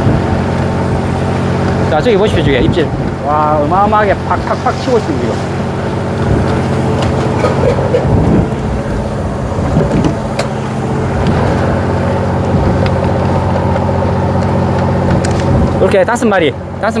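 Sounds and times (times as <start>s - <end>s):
boat engine hum: 0.0s - 17.0s.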